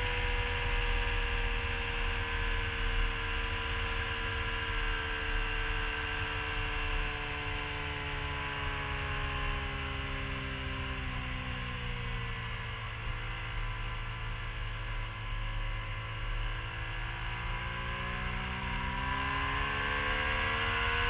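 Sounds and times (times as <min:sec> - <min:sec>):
motorcycle engine at speed: 0:00.0 - 0:21.0.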